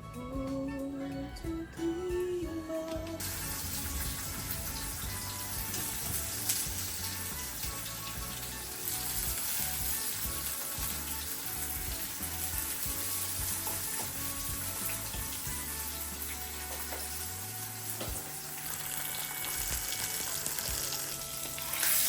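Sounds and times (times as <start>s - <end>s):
soft background music: 0.0s - 22.0s
eggs sizzling in a pan: 2.1s - 22.0s.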